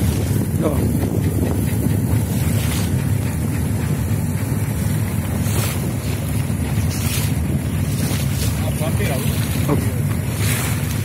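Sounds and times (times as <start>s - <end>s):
boat engine rumbling: 0.0s - 11.0s
waves slapping and splashing: 0.0s - 11.0s
wind buffeting microphone: 0.0s - 11.0s.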